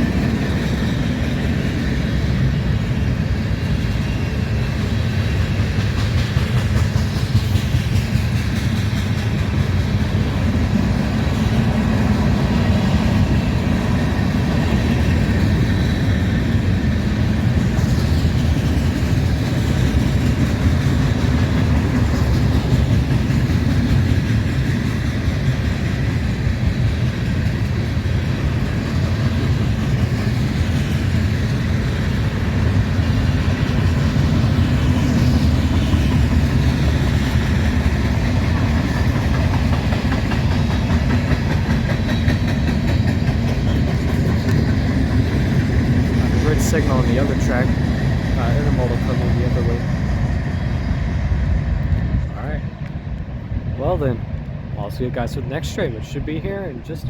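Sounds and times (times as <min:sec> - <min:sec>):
train cars rumbling on rails: 0:00.0 - 0:57.0.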